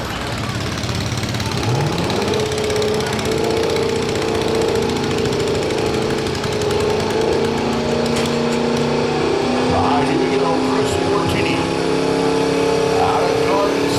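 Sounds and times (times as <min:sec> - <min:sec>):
diesel truck engine at high revs: 0:00.0 - 0:13.9.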